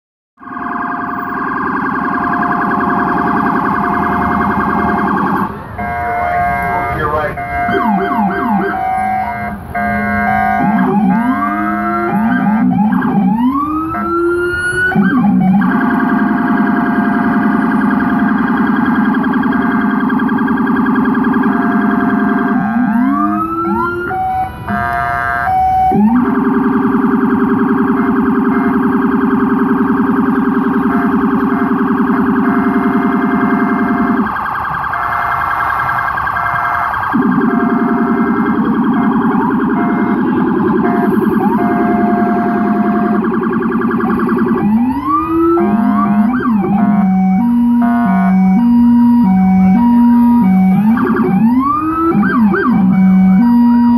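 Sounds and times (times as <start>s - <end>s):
low rumbler siren tone: 0.4s - 53.9s
police siren wail and yelp: 0.4s - 53.9s
short repeating siren tone: 0.4s - 53.9s
stepped siren tones: 0.4s - 53.9s.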